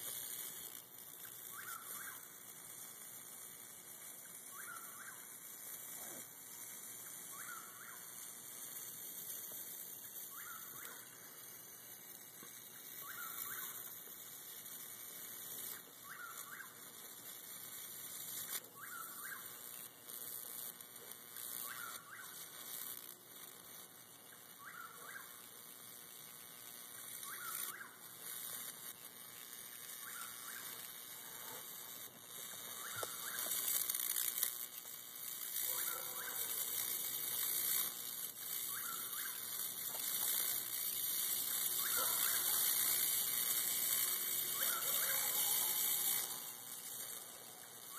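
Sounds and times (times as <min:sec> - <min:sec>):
bug zapper sizzling crackle: 0:00.0 - 0:47.9
sharp electric snaps: 0:00.0 - 0:47.9.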